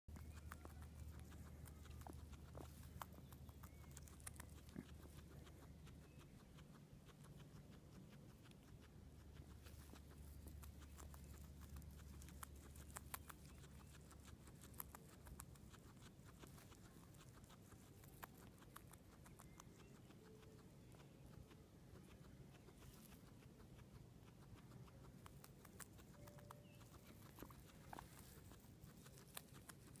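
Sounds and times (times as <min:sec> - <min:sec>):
guinea pig chewing grass: 0:00.1 - 0:30.0.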